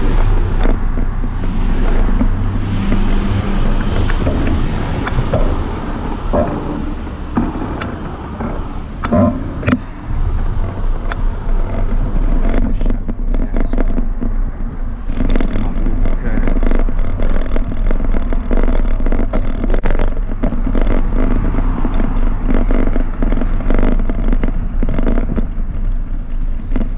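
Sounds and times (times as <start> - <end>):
bicycle rolling over paving stones: 0.0 - 26.9
bike clicks and rattles: 0.0 - 26.9.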